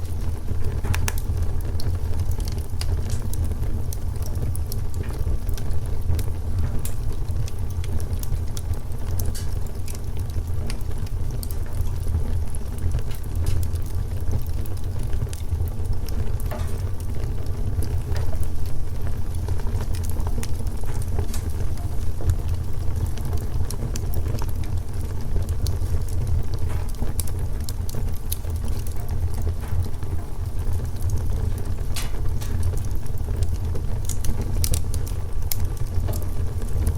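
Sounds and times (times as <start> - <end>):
low fire rumble: 0.0 - 36.9
wood fire crackling: 0.0 - 36.9.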